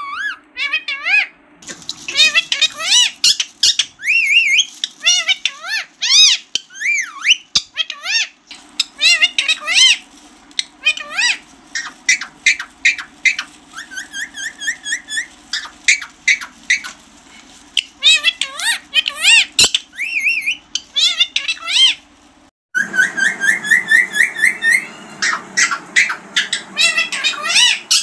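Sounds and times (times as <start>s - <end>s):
parakeet calling and chattering: 0.0s - 28.0s.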